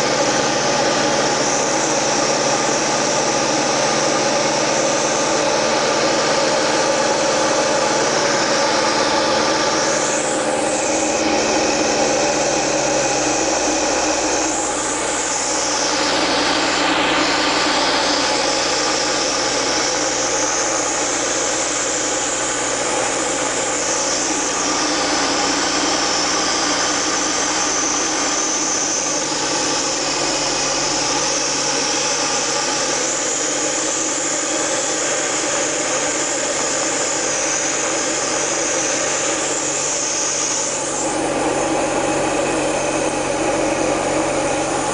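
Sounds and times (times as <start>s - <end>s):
aircraft engine and propeller: 0.0s - 44.9s
airflow hiss: 0.0s - 44.9s.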